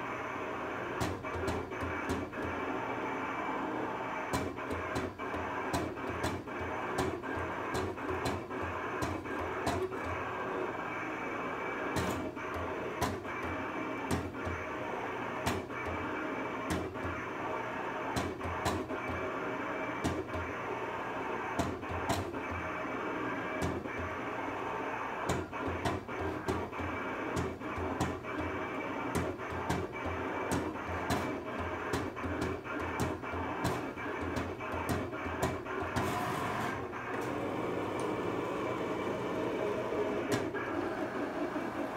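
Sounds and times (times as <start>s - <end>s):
cutting plotter motors whirring: 0.0s - 41.9s.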